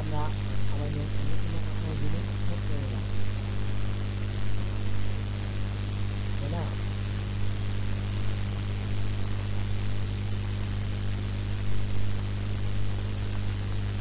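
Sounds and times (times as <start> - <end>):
low electrical hum: 0.0 - 14.0
static hiss: 0.0 - 14.0.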